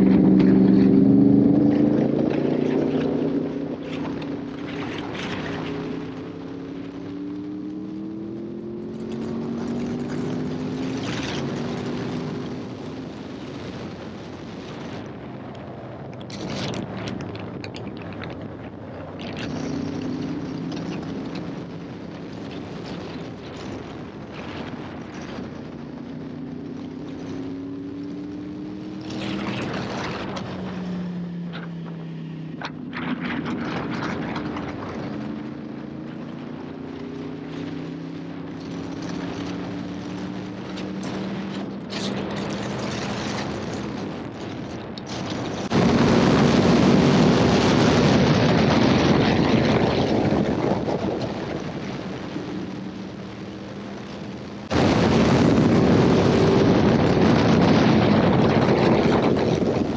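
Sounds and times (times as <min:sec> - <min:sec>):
motorcycle engine revving: 0:00.0 - 0:13.4, 0:18.8 - 0:59.9.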